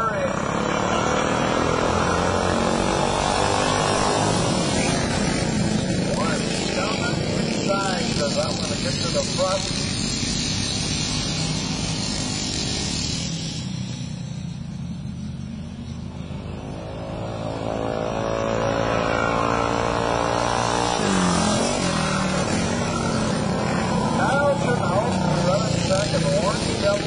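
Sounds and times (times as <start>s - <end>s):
mini bike engines racing: 0.0s - 27.0s.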